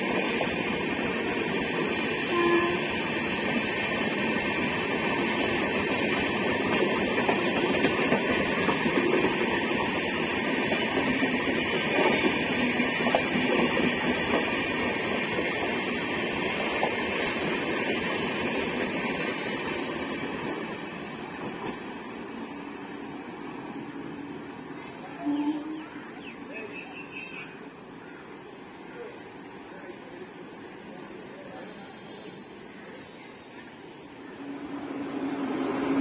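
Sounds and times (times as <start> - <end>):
train wheels rumbling on rail: 0.0 - 27.9, 30.3 - 36.0.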